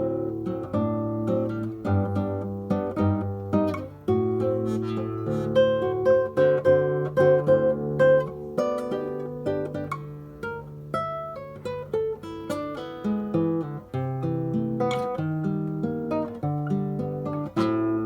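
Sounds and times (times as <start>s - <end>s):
solo acoustic guitar playing: 0.0s - 18.0s.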